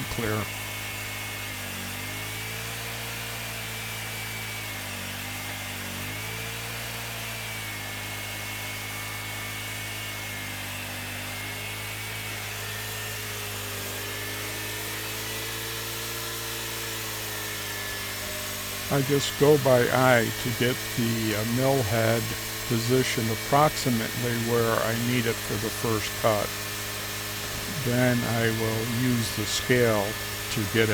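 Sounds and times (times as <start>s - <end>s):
small gasoline engine running: 0.0s - 30.9s.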